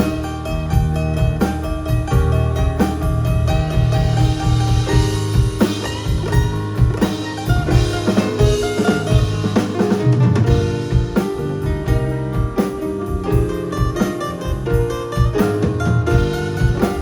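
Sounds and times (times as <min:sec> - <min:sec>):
drum kit kick and snare: 0:00.0 - 0:17.0.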